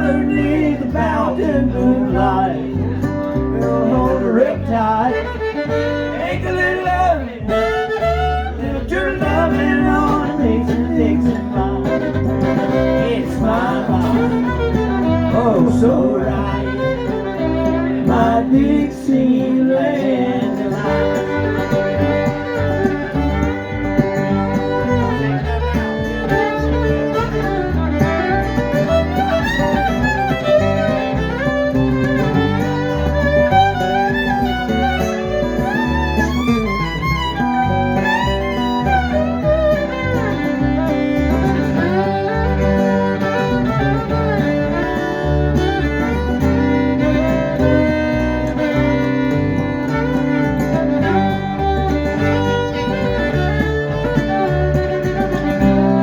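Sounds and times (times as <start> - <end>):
fiddle solo: 0.0 - 56.0
strummed guitar: 0.0 - 56.0.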